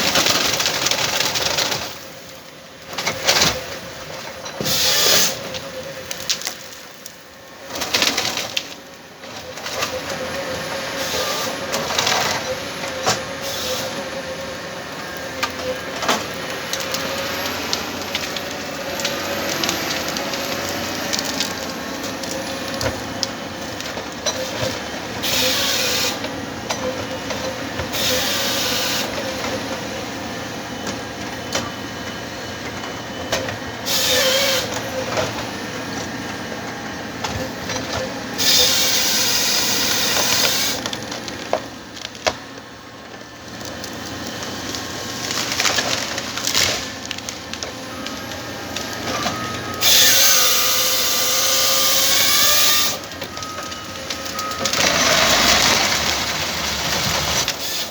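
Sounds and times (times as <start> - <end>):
forestry harvester engine running: 0.0 - 57.9.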